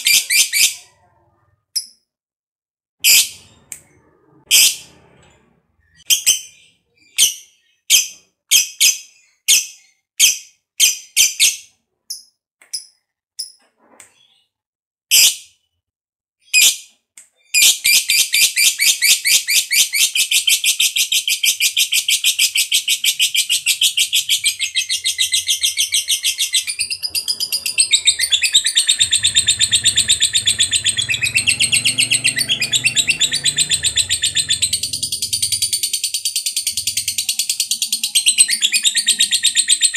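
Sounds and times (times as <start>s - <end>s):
lovebird chirping and trilling: 0.0s - 2.0s, 5.8s - 13.6s, 17.5s - 39.9s.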